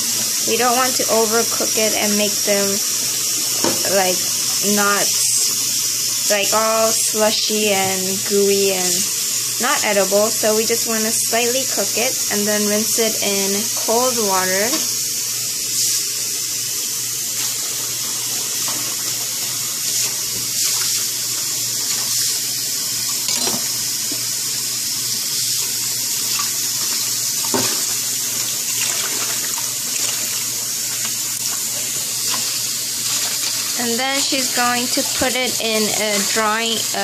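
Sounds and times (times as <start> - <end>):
tap water running: 0.0 - 37.0.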